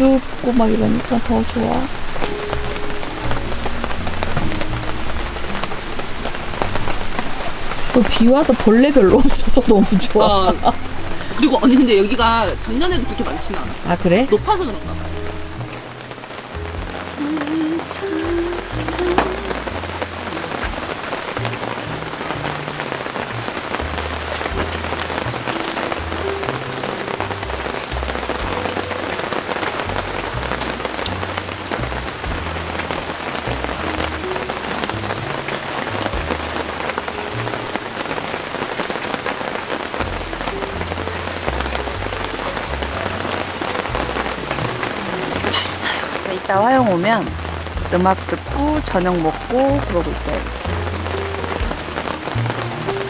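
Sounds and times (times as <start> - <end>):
heavy rain falling: 0.0 - 53.0
sharp water drips: 0.0 - 53.0.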